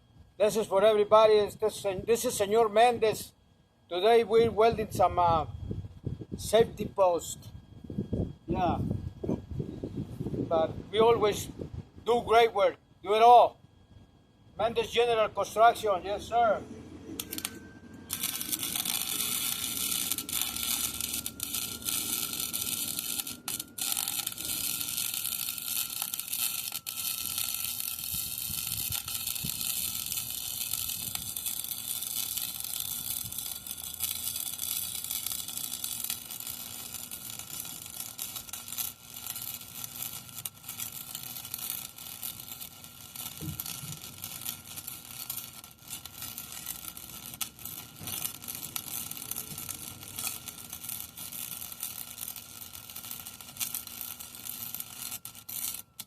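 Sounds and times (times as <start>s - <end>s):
arc welding crackling hiss: 0.0s - 13.5s, 14.6s - 56.0s.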